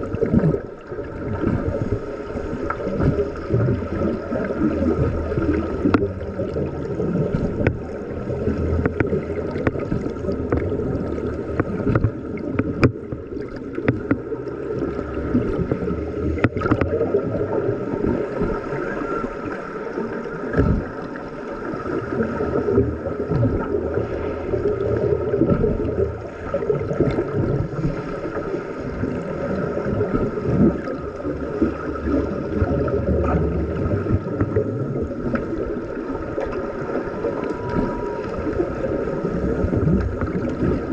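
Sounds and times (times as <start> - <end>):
underwater churning and bubbling: 0.0 - 40.9.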